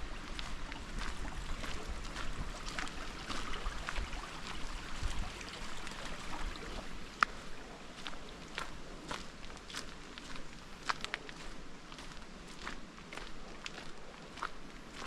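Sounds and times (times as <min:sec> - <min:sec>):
footsteps crunching on forest track: 0:00.0 - 0:15.0.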